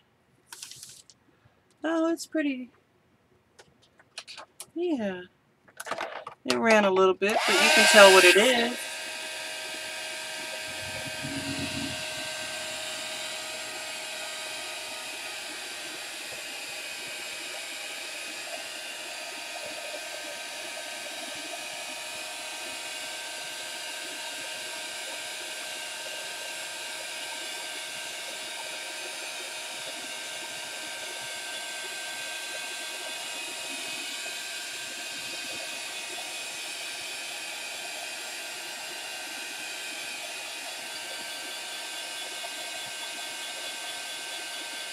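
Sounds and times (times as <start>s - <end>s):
heat tool blowing hot air: 7.3s - 44.9s.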